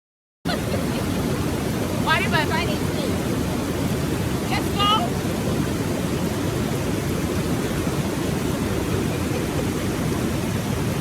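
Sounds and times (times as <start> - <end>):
water roaring through rapids: 0.5 - 11.0.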